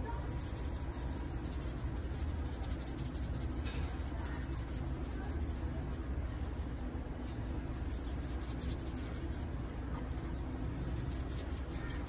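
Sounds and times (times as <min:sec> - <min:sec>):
seasoning shaker shaking: 0:00.0 - 0:06.6, 0:07.7 - 0:09.5, 0:10.5 - 0:12.0
scratchy rubbing of seasoning: 0:00.0 - 0:06.8, 0:07.6 - 0:09.6, 0:10.2 - 0:12.0.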